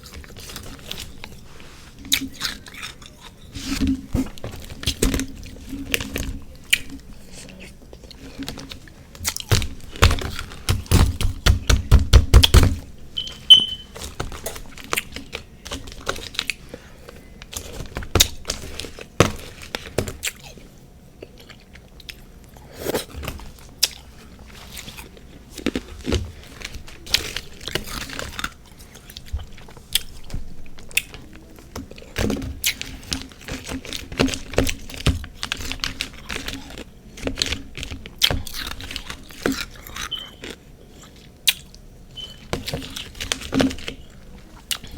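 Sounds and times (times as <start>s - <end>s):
crunching and chewing: 0.0s - 11.9s, 12.8s - 44.9s.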